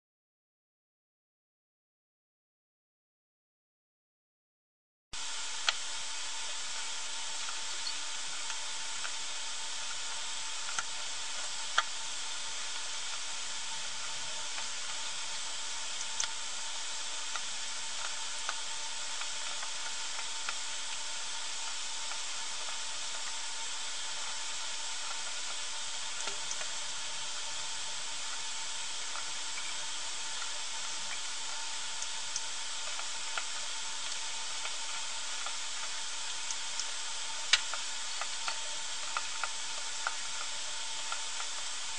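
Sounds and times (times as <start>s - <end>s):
faint steady tone: 5.2s - 41.9s
recording hiss: 5.2s - 41.9s.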